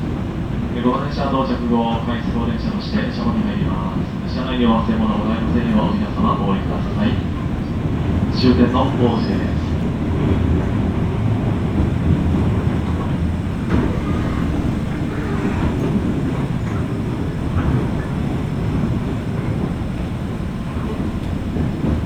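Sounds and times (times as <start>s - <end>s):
train wheels and motors rumbling: 0.0s - 22.0s.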